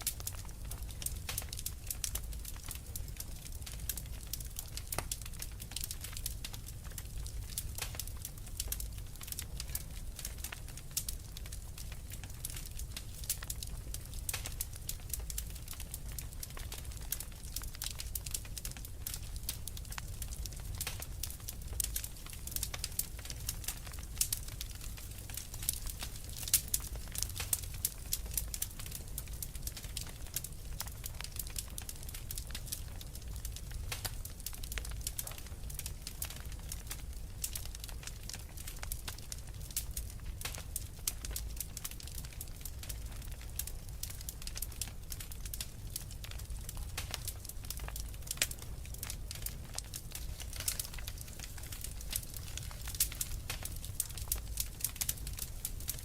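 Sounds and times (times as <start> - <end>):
fire popping and snapping: 0.0 - 56.0
low rumble of flames: 0.0 - 56.0
wood fire crackling: 0.0 - 56.0.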